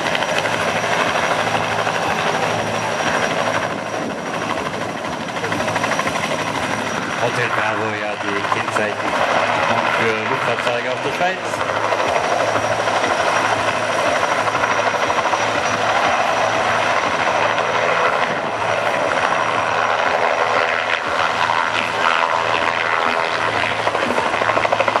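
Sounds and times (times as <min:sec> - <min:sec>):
helicopter rotor beat: 0:00.0 - 0:25.0
high turbine engine whine: 0:00.0 - 0:25.0.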